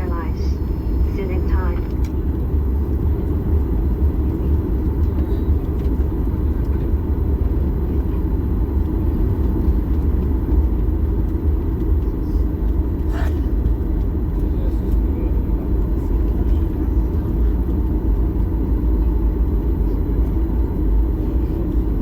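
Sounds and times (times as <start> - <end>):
vehicle cabin rumble: 0.0 - 22.0.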